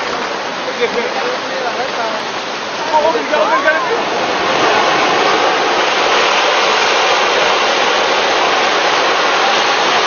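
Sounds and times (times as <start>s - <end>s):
landslide rushing roar: 0.0s - 10.0s.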